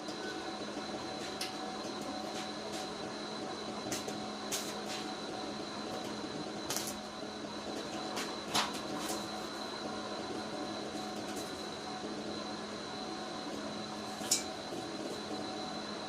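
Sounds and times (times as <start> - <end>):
faint high whine: 0.0 - 16.0
steady hum: 0.0 - 16.0.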